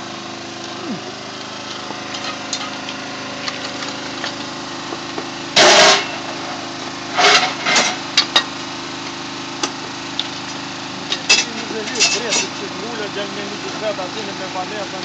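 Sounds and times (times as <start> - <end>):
loud bursts of noise: 0.0 - 15.0
small engine running: 0.0 - 15.0.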